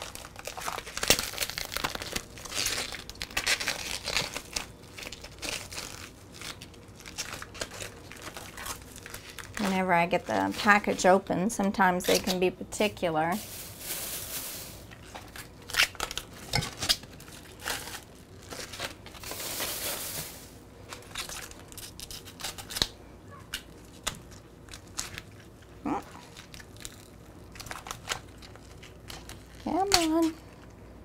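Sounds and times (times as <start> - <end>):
plastic packaging crinkling and tearing: 0.0 - 11.2, 11.8 - 30.8.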